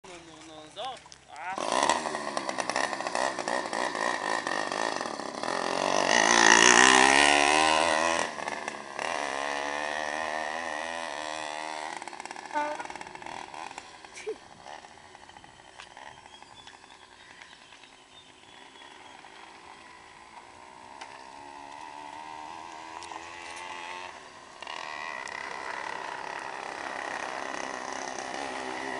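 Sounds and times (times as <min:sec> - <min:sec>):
two-stroke engine revving: 0:01.3 - 0:28.9.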